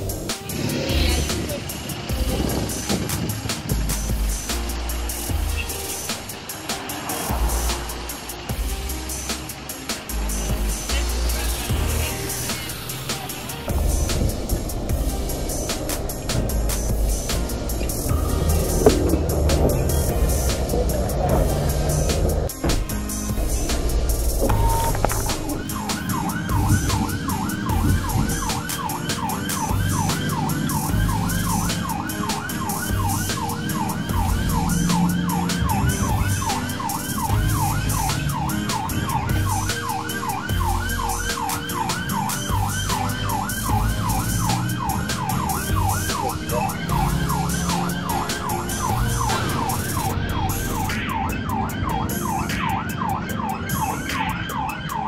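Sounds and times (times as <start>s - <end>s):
ambulance siren yelping: 0.0s - 4.3s, 11.0s - 55.0s
vehicle rumble: 0.0s - 41.5s, 42.5s - 52.6s.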